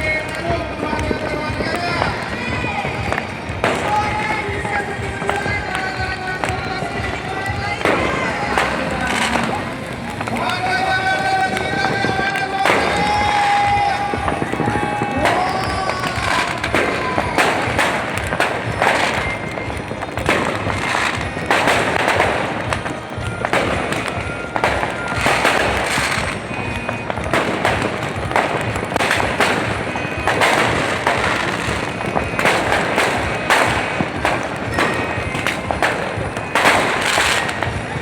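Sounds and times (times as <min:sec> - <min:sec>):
fireworks bangs and crackles: 0:00.0 - 0:38.0
music playing: 0:00.0 - 0:38.0.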